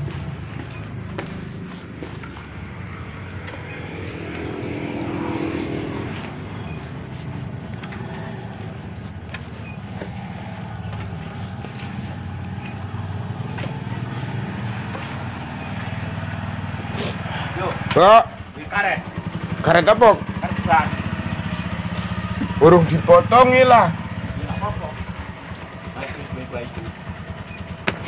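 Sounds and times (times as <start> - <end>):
two-stroke motorcycle engine running: 0.0 - 28.0.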